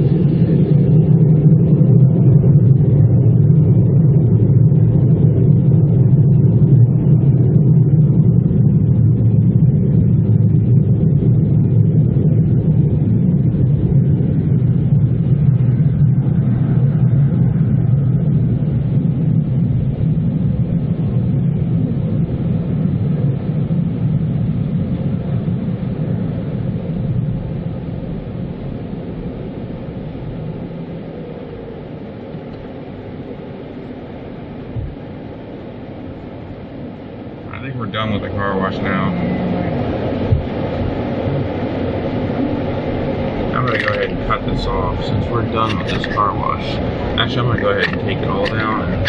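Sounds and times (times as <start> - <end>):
car wash machinery roar: 0.0 - 49.0.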